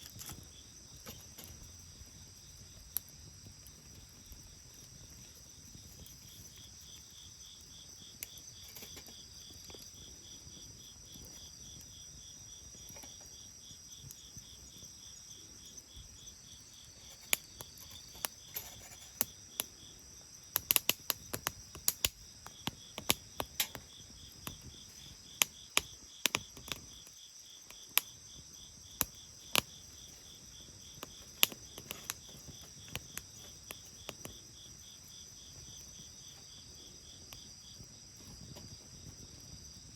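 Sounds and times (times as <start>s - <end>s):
bonfire crackling and popping: 0.0s - 15.0s, 15.6s - 34.9s
insects chirping: 0.0s - 39.9s.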